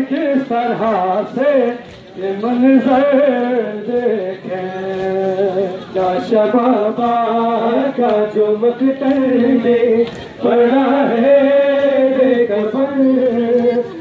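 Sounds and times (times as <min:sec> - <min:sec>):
men chanting a lament: 0:00.0 - 0:14.0.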